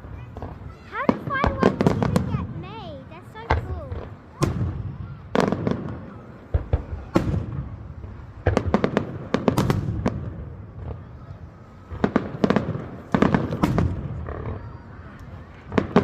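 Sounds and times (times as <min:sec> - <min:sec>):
fireworks bursting with bangs: 0:00.0 - 0:16.0
rapid fireworks crackling: 0:00.0 - 0:16.0.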